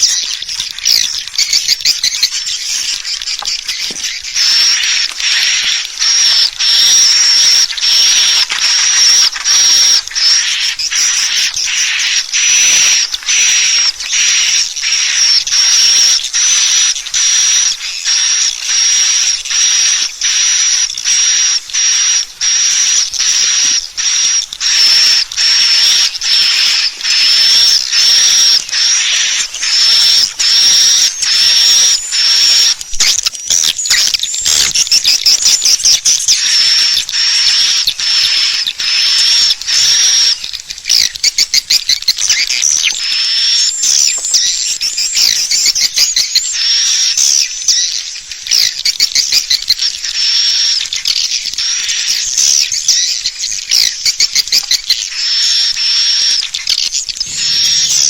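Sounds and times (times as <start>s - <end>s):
high twittering bird chirps: 0.0s - 58.0s.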